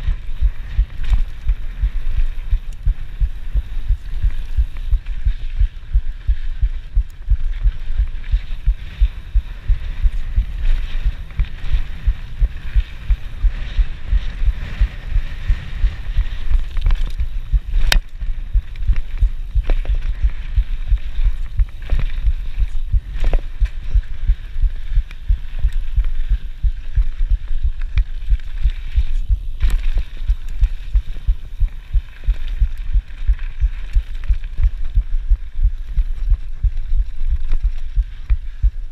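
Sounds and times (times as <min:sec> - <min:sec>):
bike knocking: 0:00.0 - 0:38.9
heartbeat thuds: 0:00.0 - 0:38.9
hiss of bike on dirt trail: 0:00.0 - 0:38.9.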